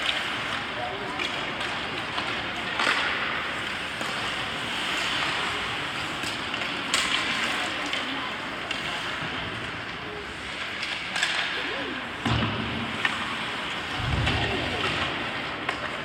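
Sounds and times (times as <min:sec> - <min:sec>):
skates scraping on ice: 0:00.0 - 0:16.0.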